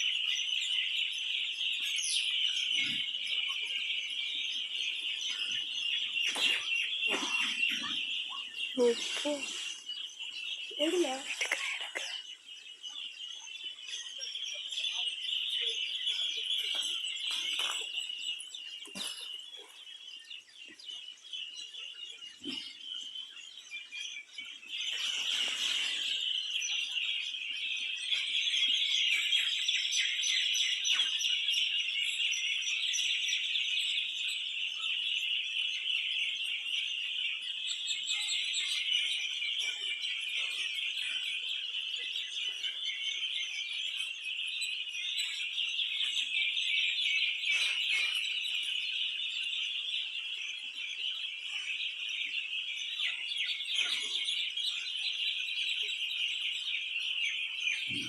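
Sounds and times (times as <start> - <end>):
flock of birds chirping: 0.0 - 58.0.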